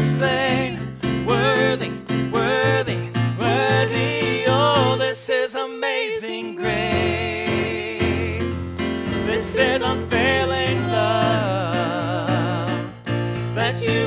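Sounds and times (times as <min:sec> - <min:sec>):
keyboard accompaniment: 0:00.0 - 0:14.0
man and woman singing: 0:00.0 - 0:14.0.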